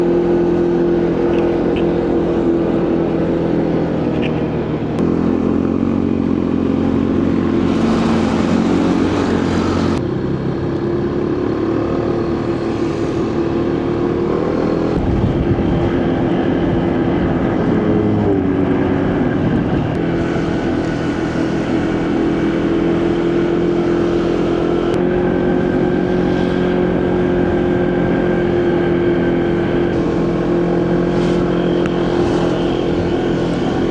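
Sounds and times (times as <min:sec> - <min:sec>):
motorcycle engine running: 0:00.0 - 0:33.9
road and traffic noise: 0:00.0 - 0:33.9.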